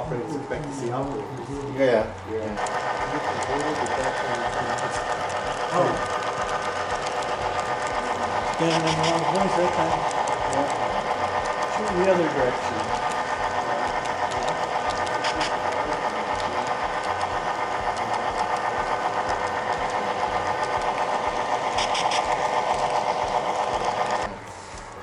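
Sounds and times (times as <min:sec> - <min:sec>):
model train motor hum: 0:00.0 - 0:25.0.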